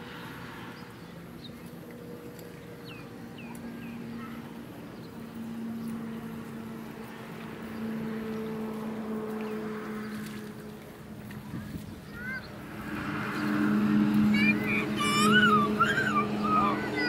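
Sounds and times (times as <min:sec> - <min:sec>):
distant small engine droning: 0:00.0 - 0:17.0.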